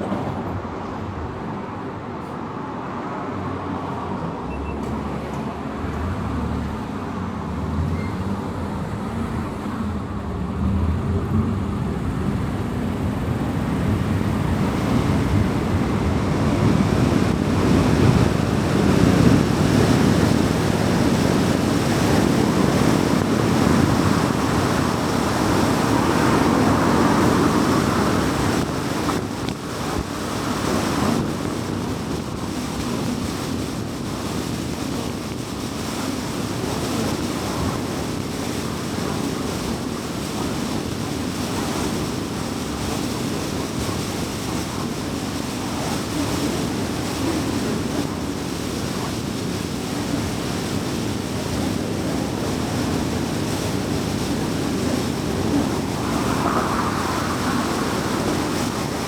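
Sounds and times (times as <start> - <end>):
car tyre road and wind noise: 0.0 - 59.0.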